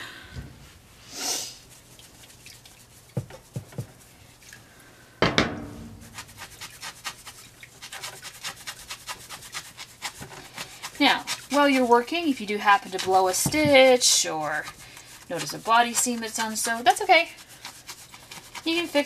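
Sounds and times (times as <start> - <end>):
hands rubbing wet cloth: 0.6 - 4.6, 5.9 - 19.0.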